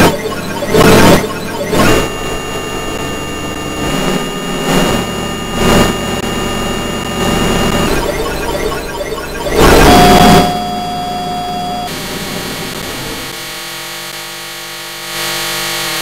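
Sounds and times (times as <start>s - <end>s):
synthesized electronic drone: 0.0s - 16.0s.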